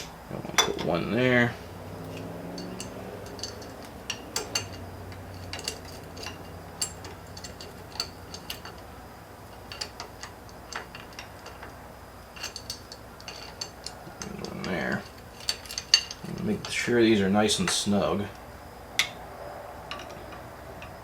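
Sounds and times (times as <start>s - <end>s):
metallic clicks and clinks of wrenches: 0.0s - 18.0s, 19.8s - 21.0s
low steady hum: 0.0s - 21.0s.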